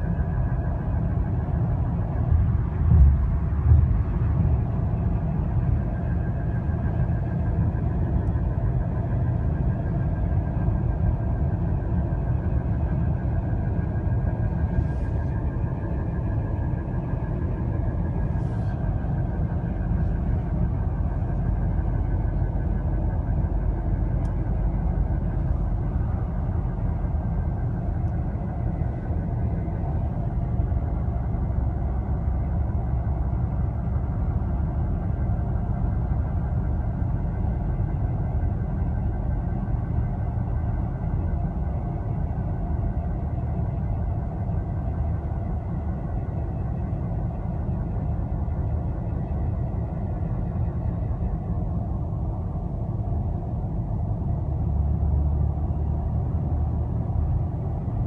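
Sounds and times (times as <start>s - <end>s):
low road rumble: 0.0s - 58.0s.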